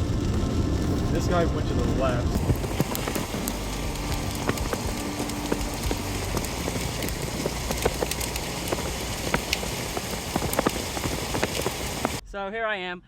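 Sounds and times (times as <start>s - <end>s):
rain hissing on a car: 0.0s - 12.2s
raindrops ticking: 0.0s - 12.2s.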